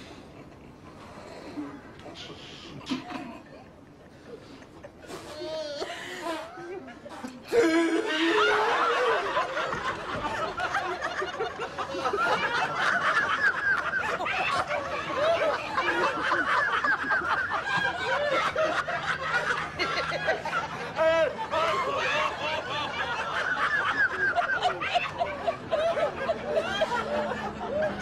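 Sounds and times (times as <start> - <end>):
crowd laughing: 2.2 - 28.0.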